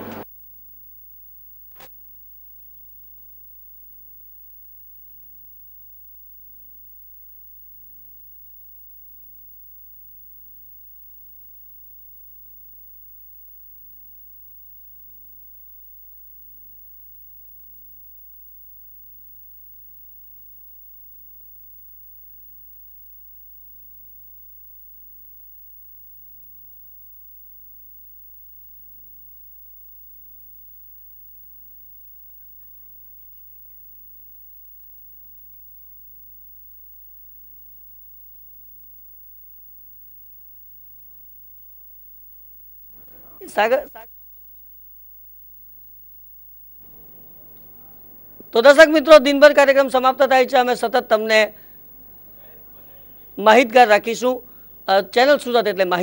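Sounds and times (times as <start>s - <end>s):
faint electrical mains hum: 0.0s - 56.0s.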